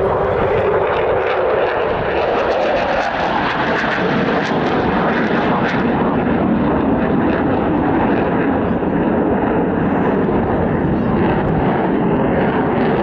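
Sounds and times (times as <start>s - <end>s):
jet engine crackle: 0.0s - 13.0s
loud jet engine noise: 0.0s - 13.0s.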